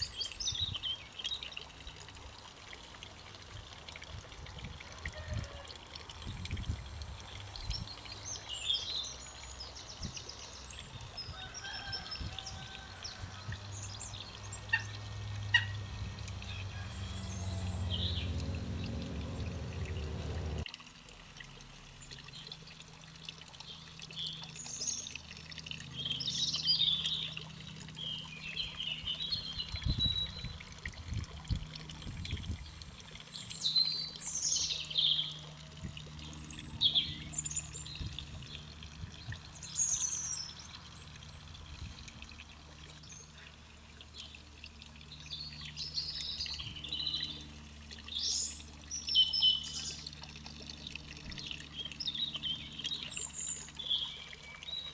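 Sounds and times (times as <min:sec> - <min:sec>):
garden birds chirping: 0:00.0 - 0:20.7, 0:21.9 - 0:54.9.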